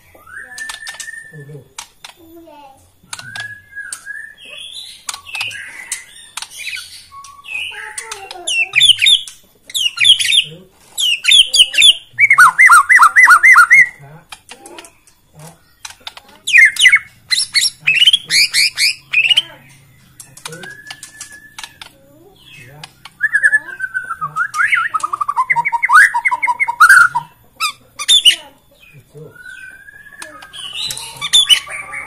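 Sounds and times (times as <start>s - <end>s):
bird singing warbles and whistles: 0.0s - 1.8s, 2.5s - 14.0s, 14.8s - 32.0s.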